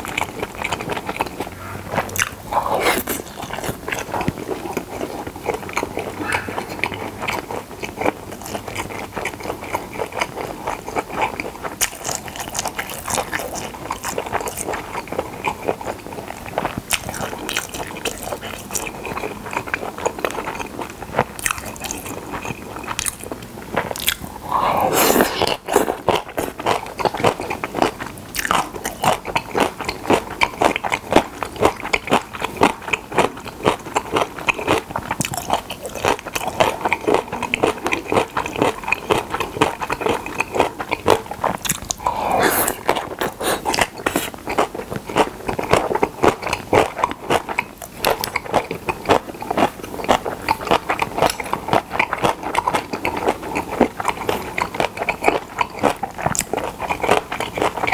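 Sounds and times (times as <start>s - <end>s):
crunchy chewing close up: 0.0s - 57.9s.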